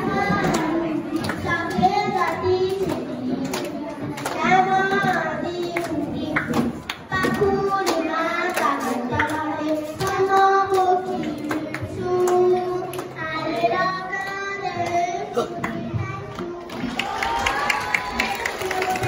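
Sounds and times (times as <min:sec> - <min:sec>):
children singing together: 0:00.0 - 0:19.0
hand claps: 0:00.4 - 0:13.2, 0:16.4 - 0:19.0.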